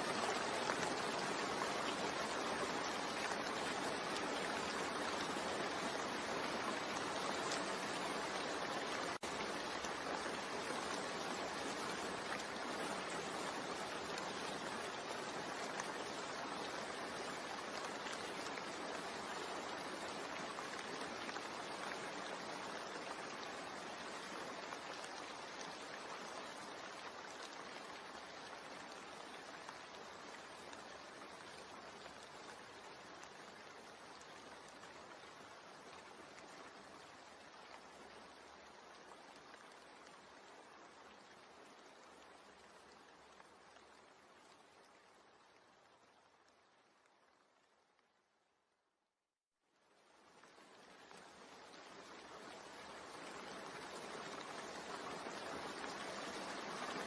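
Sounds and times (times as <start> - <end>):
steady rain: 0.0 - 48.7, 49.6 - 57.0.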